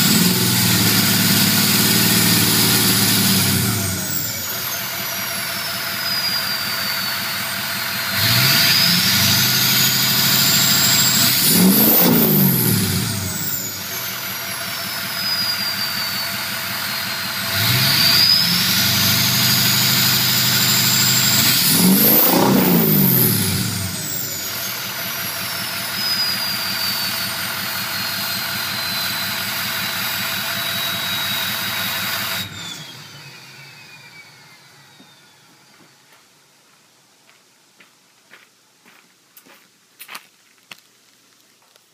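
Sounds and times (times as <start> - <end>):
diesel engine idling and revving: 0.0 - 36.5
turbo whistle: 1.7 - 35.9.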